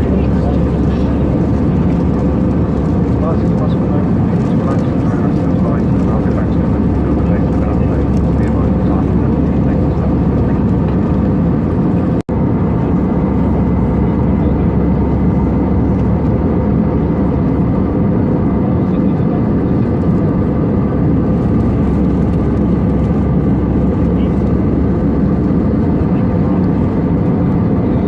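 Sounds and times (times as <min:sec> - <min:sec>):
jet engine roar in cabin: 0:00.0 - 0:28.0.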